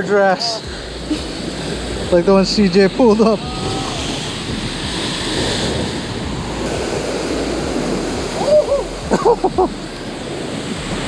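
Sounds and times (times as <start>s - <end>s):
surf breaking on rocky shore: 0.0s - 11.0s.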